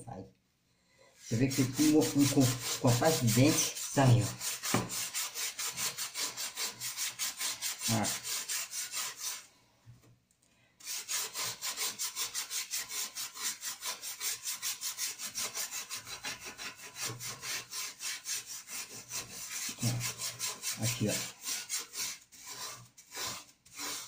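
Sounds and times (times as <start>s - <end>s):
scrubbing a metal pot: 1.2s - 9.5s, 10.8s - 24.0s.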